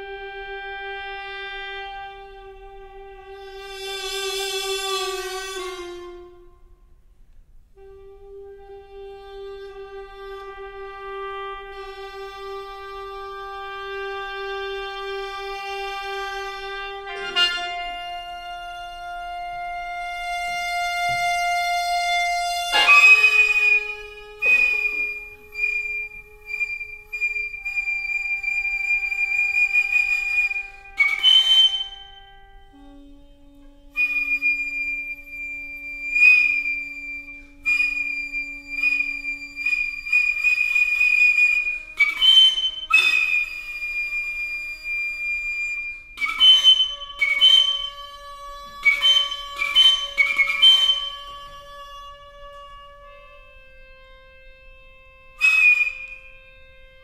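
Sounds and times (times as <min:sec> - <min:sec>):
held clarinet note: 0:00.0 - 0:07.0, 0:07.7 - 0:57.0
shrill flute notes: 0:00.0 - 0:07.0, 0:07.8 - 0:57.0.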